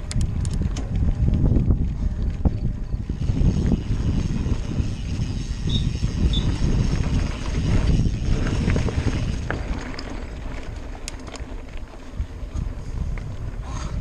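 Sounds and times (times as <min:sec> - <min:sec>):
bike clicks and rattles: 0:00.0 - 0:14.0
wind buffeting microphone: 0:00.0 - 0:14.0.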